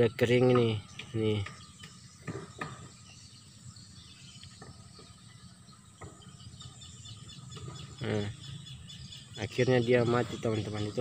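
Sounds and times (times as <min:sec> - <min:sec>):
faint insects chirping: 0:00.0 - 0:11.0.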